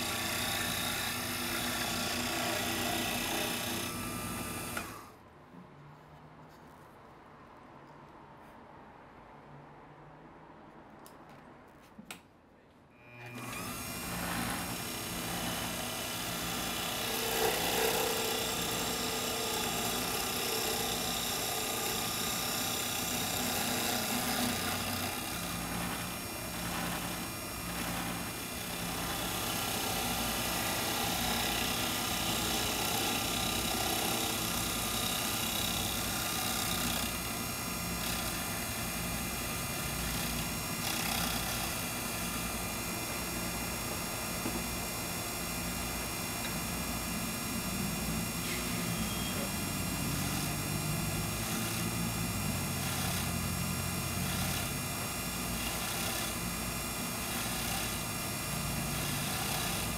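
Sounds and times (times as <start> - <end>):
turning tool cutting wood: 0.0 - 5.1, 13.2 - 59.9
wood lathe running: 0.0 - 5.1, 13.2 - 59.9.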